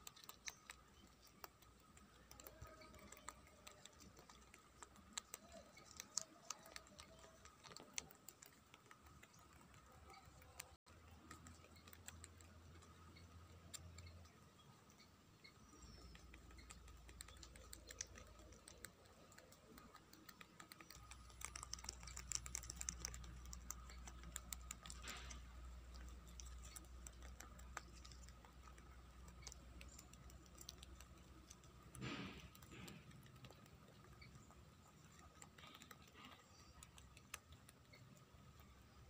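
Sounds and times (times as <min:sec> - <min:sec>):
rabbits chewing leaves: 0:00.0 - 0:39.0.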